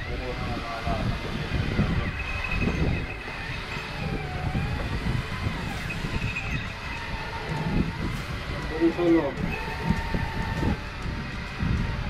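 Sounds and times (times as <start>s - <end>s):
boat machinery rumbling: 0.0s - 12.0s
faint voices: 0.0s - 12.0s.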